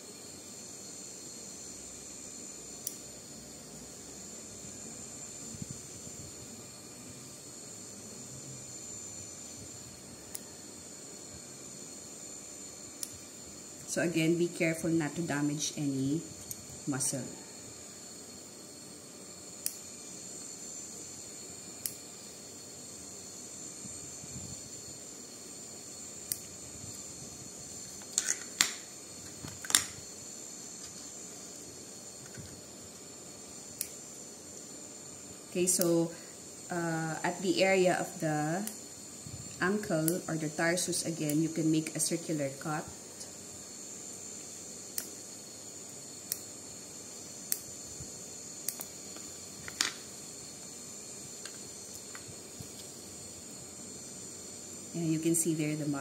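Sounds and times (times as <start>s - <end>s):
steady high hiss: 0.0s - 56.0s.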